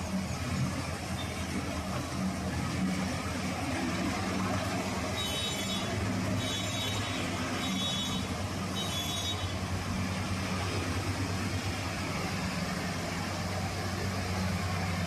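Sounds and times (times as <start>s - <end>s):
combine harvester engine drone: 0.0s - 15.0s.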